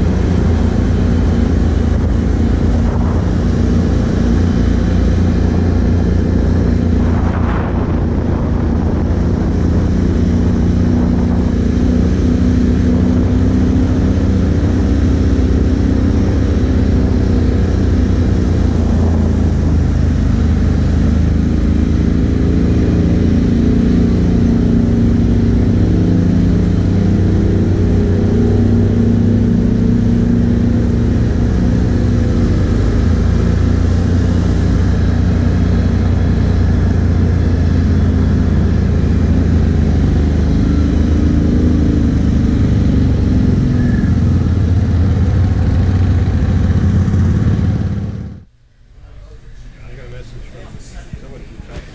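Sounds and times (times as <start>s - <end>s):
atv engine running: 0.0s - 51.9s.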